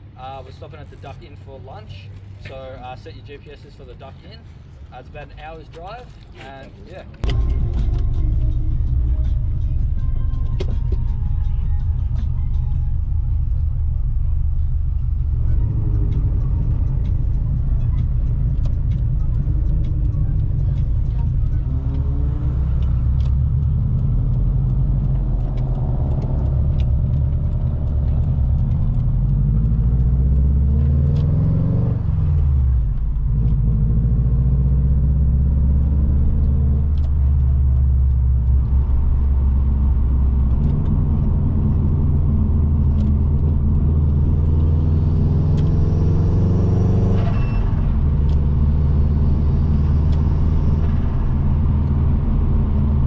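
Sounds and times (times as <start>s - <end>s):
car engine accelerating: 6.9s - 53.0s.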